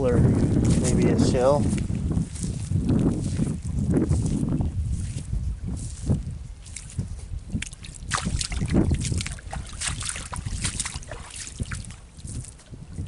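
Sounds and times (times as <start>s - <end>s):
footsteps on dry grass: 0.0s - 13.0s
wind buffeting microphone: 0.0s - 13.0s.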